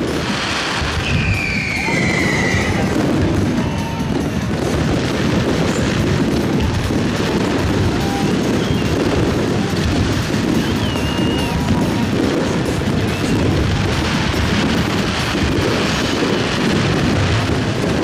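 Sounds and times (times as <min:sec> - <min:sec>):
fireworks booming and crackling: 0:00.0 - 0:18.0
fireworks whistling: 0:00.0 - 0:18.0.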